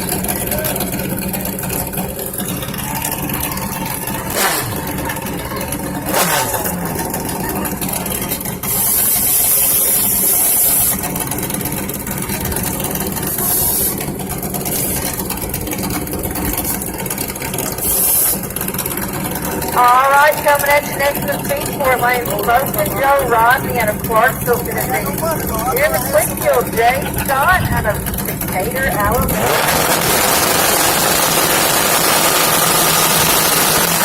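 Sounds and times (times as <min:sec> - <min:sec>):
motorcycle engines idling and revving: 0:00.0 - 0:34.0.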